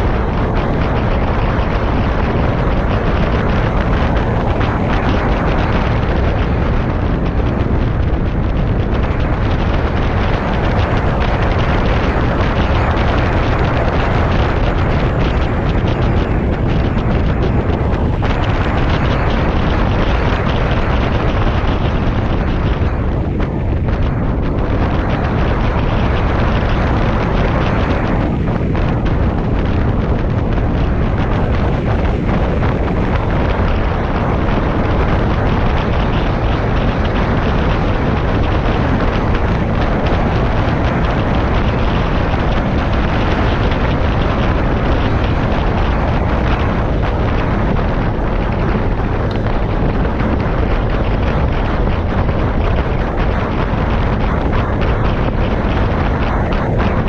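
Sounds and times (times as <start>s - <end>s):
scooter engine running: 0.0s - 57.0s
wind buffeting microphone: 0.0s - 57.0s.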